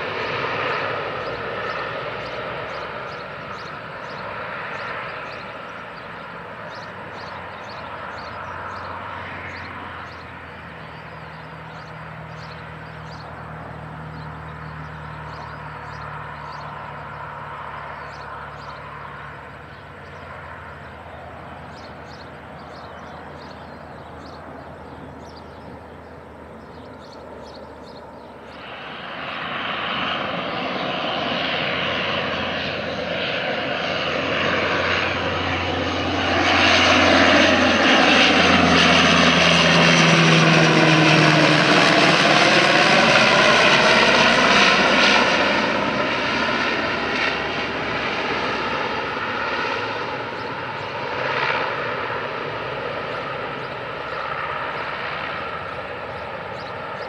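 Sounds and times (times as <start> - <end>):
turboprop aircraft drone: 0.0 - 57.0.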